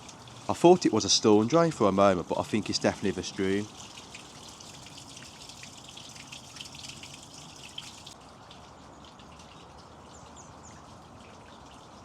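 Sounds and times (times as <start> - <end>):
light rain pattering and dripping: 0.0 - 12.0
stream trickling: 0.0 - 12.0.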